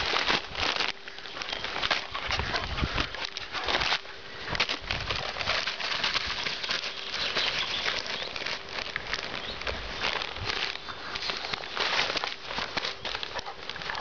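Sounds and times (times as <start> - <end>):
dog chewing paper: 0.0 - 14.0
paper bag crinkling: 0.0 - 14.0.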